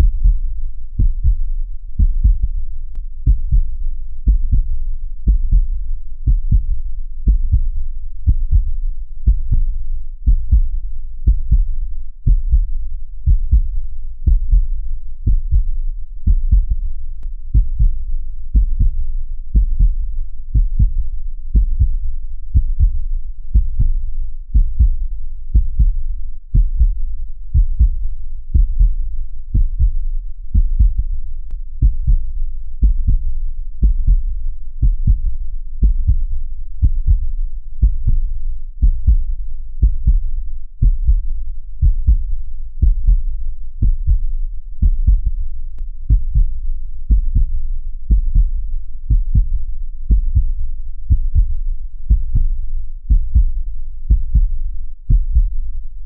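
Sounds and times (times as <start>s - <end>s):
heartbeat thumps: 0.0s - 55.8s.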